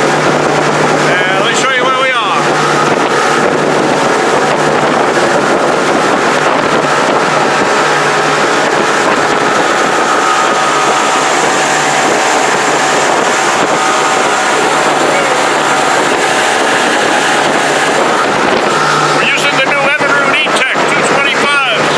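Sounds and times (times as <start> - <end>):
motorboat engine running: 0.0 - 21.9
wind on microphone: 0.0 - 21.9.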